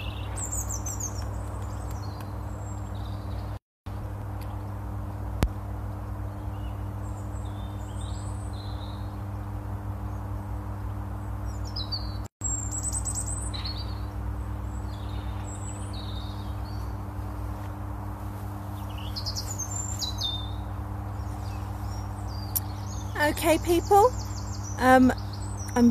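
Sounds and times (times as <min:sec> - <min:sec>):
small birds chirping and trilling: 0:00.0 - 0:03.6, 0:06.0 - 0:25.9
steady low hum: 0:00.0 - 0:25.9.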